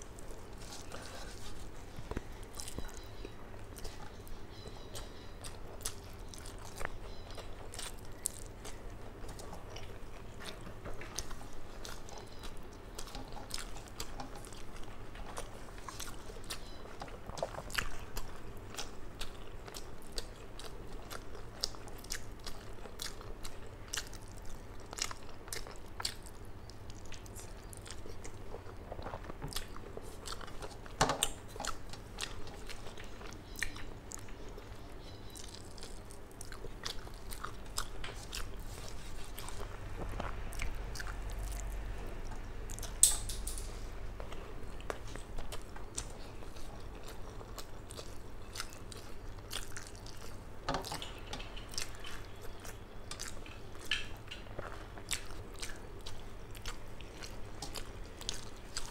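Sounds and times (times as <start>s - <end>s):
person chewing with wet clicks: 0.0s - 58.9s.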